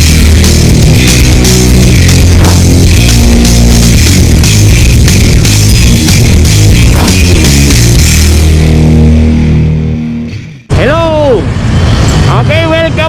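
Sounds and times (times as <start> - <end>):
loud rock music: 0.0 - 10.7.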